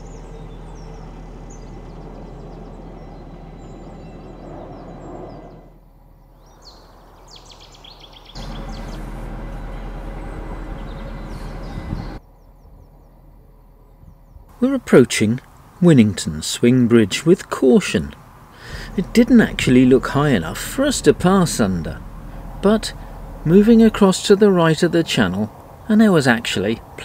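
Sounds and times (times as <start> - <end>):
diesel boat engine running: 0.0 - 5.8, 6.7 - 12.2, 14.5 - 27.0
songbirds chirping: 0.0 - 27.0.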